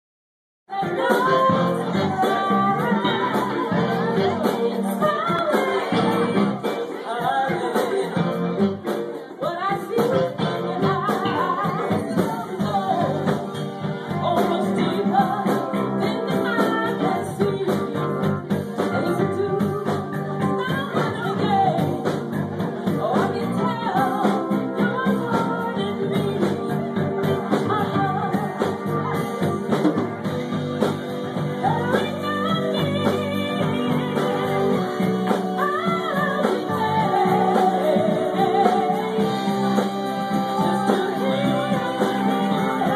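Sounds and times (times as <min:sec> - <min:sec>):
drums keeping a steady beat: 0:00.7 - 0:42.9
keyboard: 0:00.7 - 0:42.9
woman singing lead: 0:00.7 - 0:42.9
electric guitars: 0:00.8 - 0:42.9.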